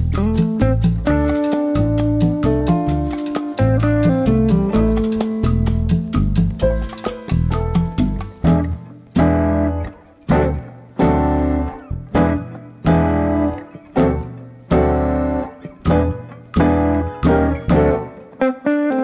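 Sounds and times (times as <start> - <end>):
plucked chords over bass: 0.0 - 18.3.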